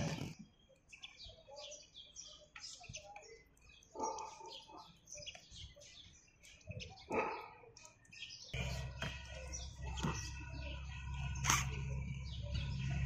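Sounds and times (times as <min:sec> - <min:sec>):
faint small birds chirping: 0:00.0 - 0:13.0.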